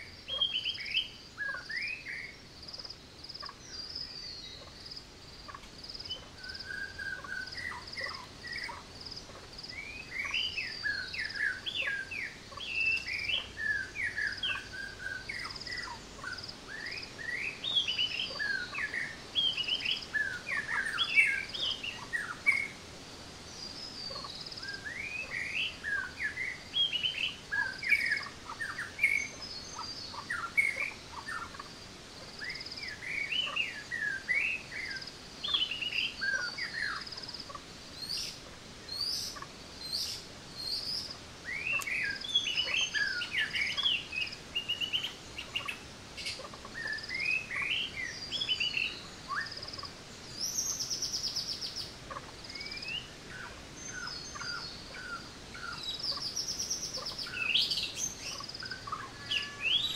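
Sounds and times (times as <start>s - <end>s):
forest birds singing: 0.0s - 59.9s.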